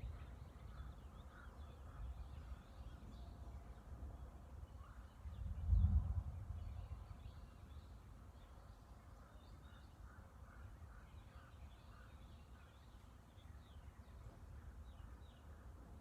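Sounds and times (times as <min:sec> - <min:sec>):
faint bird chirps: 0:00.0 - 0:15.7.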